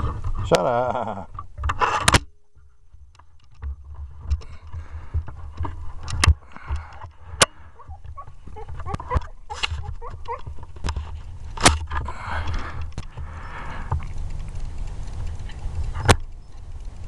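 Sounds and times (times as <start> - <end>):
faint clicks: 1.3 - 17.0
low steady rumble: 2.3 - 17.0.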